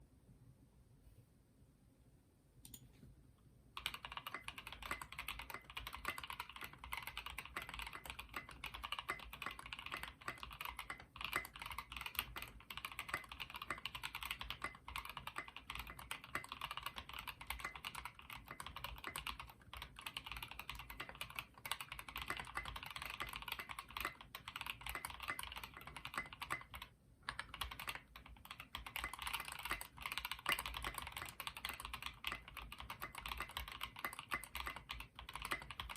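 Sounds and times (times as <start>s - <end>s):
mechanical keyboard typing: 3.8s - 35.9s.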